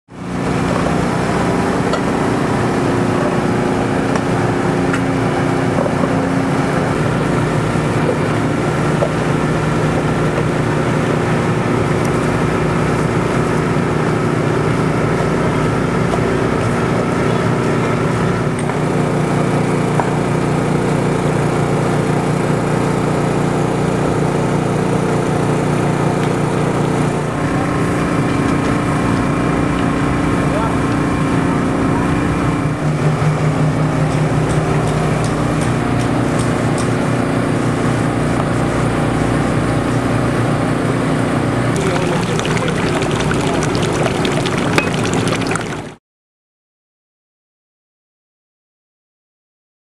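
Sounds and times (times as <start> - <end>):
engine running steadily: 0.2 - 40.6.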